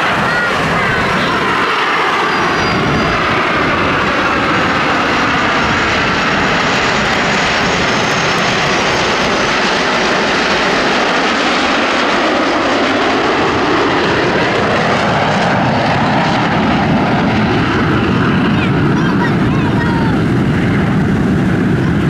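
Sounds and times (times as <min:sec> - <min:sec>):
jet aircraft flying overhead: 0:00.0 - 0:22.0.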